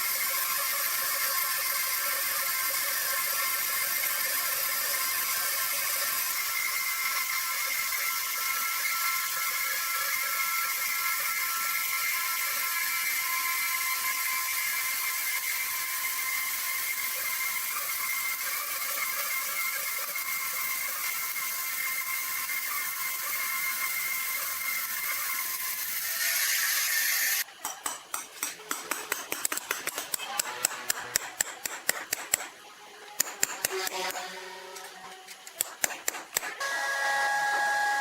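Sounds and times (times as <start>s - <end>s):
sawmill machinery whining: 0.0s - 27.5s, 33.1s - 35.6s, 36.4s - 38.0s.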